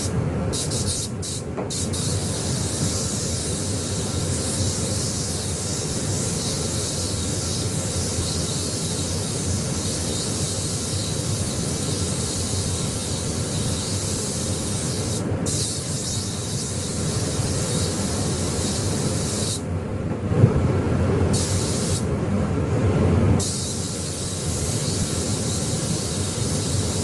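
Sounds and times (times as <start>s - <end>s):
spray gun hissing: 0.0s - 19.7s, 21.3s - 22.1s, 23.4s - 27.0s.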